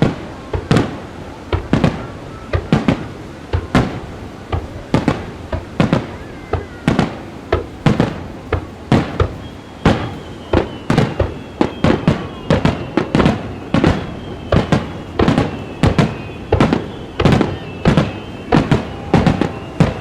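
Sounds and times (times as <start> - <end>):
fireworks shells bursting: 0.0 - 20.0
faint whistling tones: 0.3 - 20.0.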